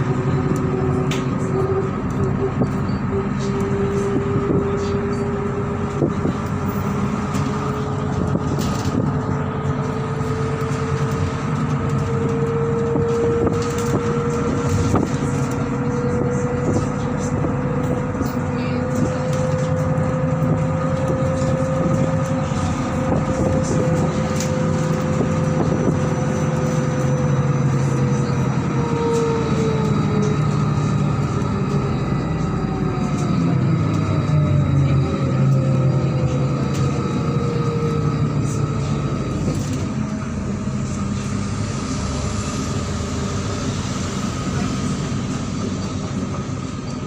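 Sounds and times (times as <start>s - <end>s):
bus drivetrain whine: 0.0s - 47.0s
low engine hum: 0.0s - 47.0s.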